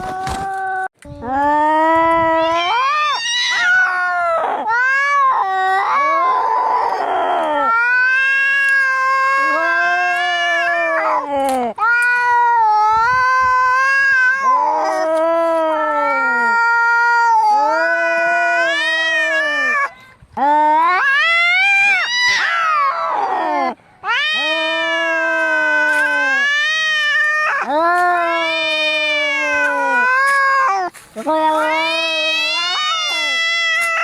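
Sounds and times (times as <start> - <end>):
cats yowling in a fight: 2.2 - 19.9, 20.6 - 34.0.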